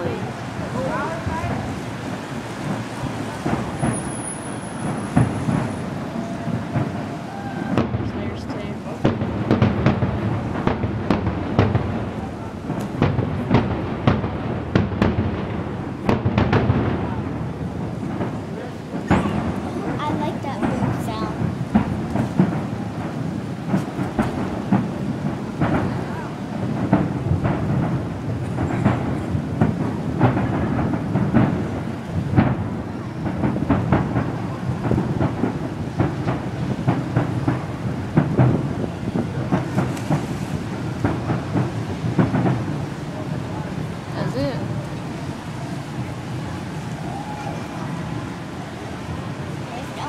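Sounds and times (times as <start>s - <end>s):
distant fireworks bangs: 0.0s - 50.0s.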